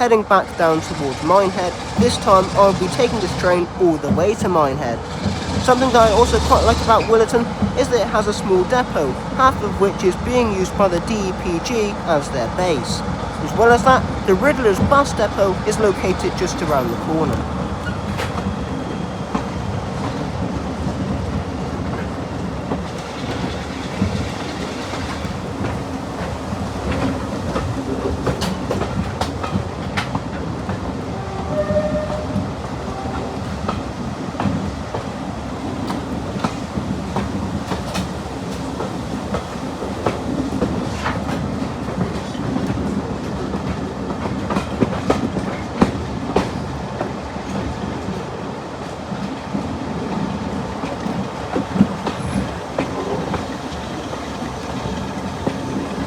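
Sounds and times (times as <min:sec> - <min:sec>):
train rumble: 0:00.0 - 0:56.0
wheels clacking over rail joints: 0:00.0 - 0:56.0.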